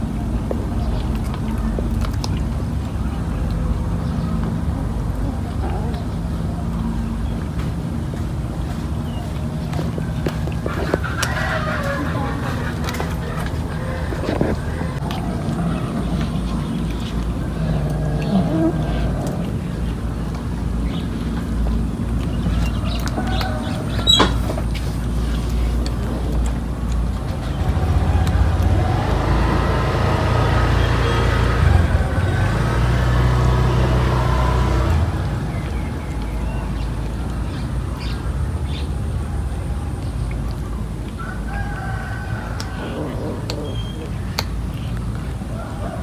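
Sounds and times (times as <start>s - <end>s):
steady low rumble: 0.0s - 46.0s
vehicle engine passing: 0.0s - 46.0s.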